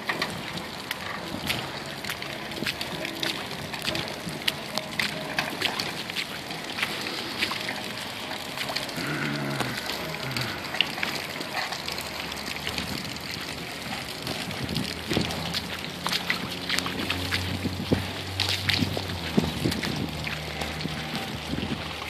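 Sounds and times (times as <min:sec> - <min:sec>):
sharp ticks and splats: 0:00.0 - 0:22.0.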